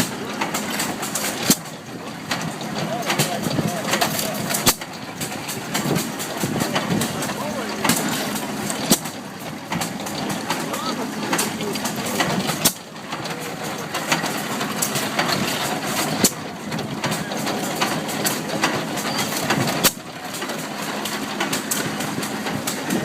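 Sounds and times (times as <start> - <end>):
stationary engines clattering: 0.0 - 23.0.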